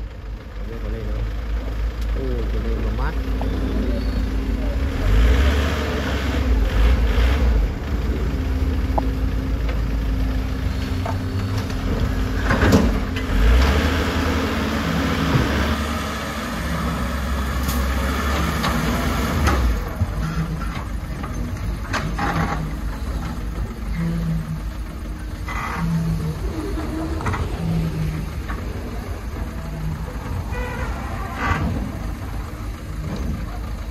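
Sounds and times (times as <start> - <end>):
diesel truck engine under load: 0.0 - 33.9.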